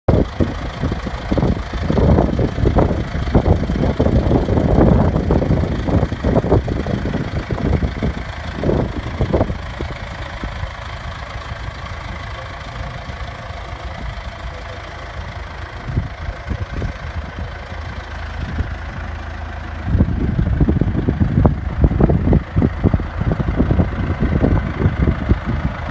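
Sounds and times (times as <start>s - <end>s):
tractor diesel engine running: 0.1s - 25.9s.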